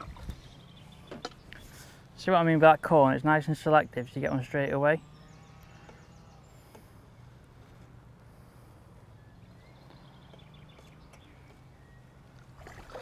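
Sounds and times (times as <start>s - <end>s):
distant bird chirps: 0.0s - 12.6s.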